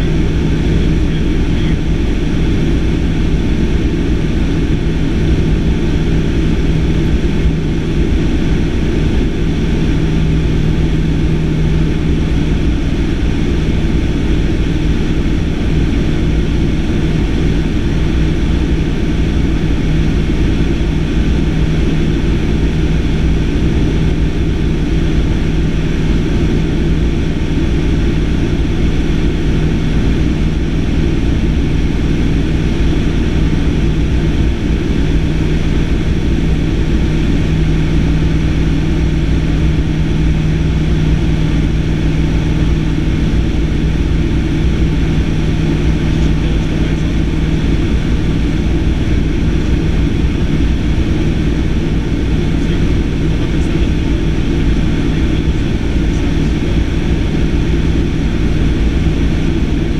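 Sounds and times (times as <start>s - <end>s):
light aircraft engine droning: 0.0s - 59.9s.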